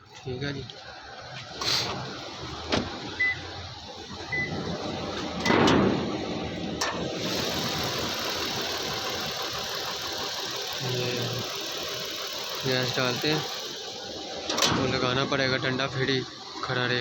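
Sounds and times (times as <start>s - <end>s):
car engine running with hiss: 0.0s - 17.0s.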